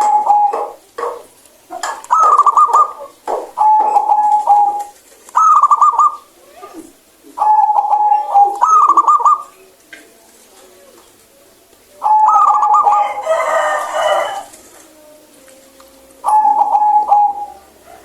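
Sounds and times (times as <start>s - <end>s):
dove rolling cooing song: 0.0s - 18.0s.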